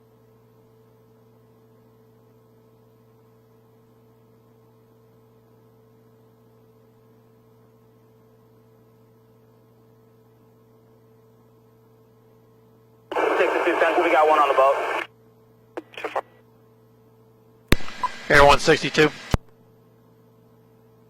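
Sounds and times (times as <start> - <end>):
faint electrical hum with hiss: 0.0 - 21.0.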